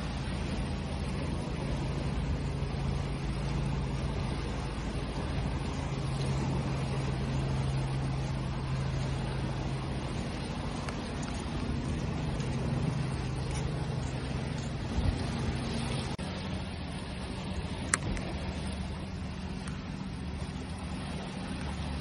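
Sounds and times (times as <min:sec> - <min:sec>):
low steady hum: 0:00.0 - 0:22.0
ocean waves washing: 0:00.0 - 0:22.0.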